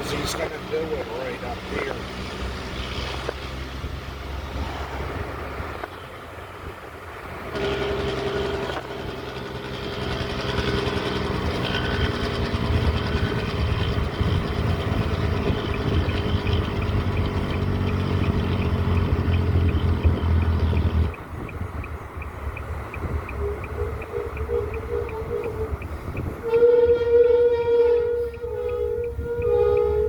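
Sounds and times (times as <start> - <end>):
diesel truck engine braking: 0.0 - 6.0, 7.3 - 30.0.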